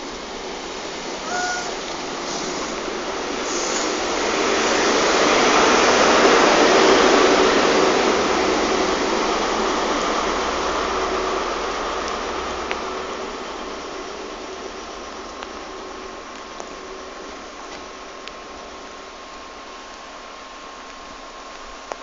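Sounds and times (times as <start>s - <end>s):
train passing rumble: 0.0s - 21.9s
rain hiss: 0.0s - 22.0s.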